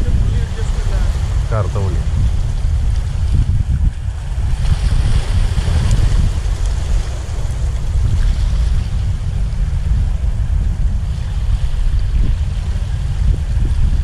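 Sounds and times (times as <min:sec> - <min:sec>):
waves splashing against rocks: 0:00.0 - 0:14.0
wind rumbling on microphone: 0:00.0 - 0:14.0.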